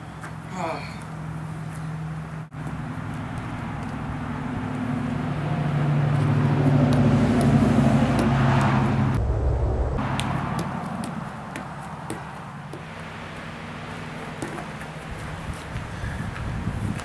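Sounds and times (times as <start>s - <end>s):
car engine hum: 1.1s - 16.0s.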